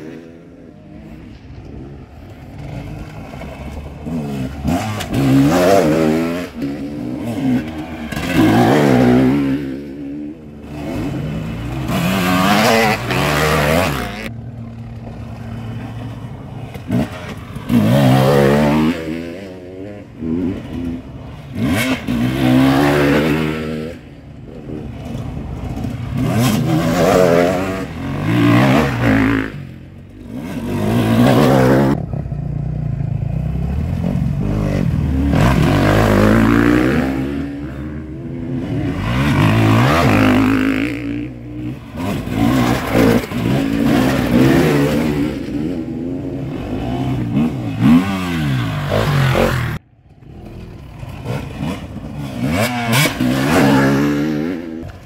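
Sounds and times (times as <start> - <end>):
motorcycles racing past: 0.0 - 55.0.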